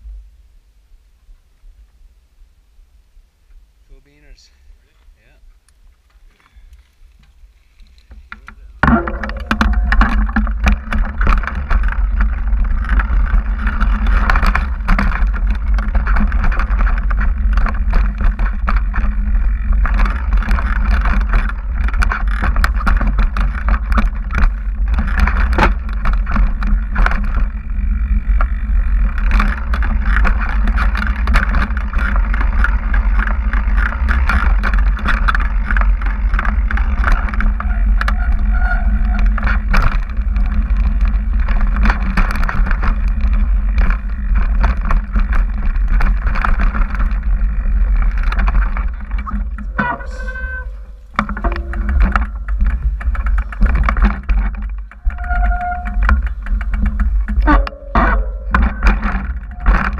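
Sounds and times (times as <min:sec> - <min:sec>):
bike rattling over bumps: 0:02.8 - 0:59.9.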